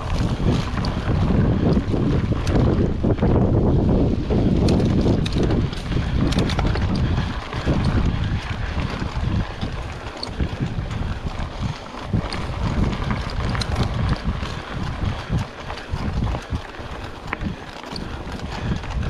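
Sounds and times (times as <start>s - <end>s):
small clicks and rattles: 0.0s - 2.9s, 4.5s - 19.0s
tyres rolling on gravel: 0.0s - 19.0s
wind buffeting microphone: 0.0s - 19.0s.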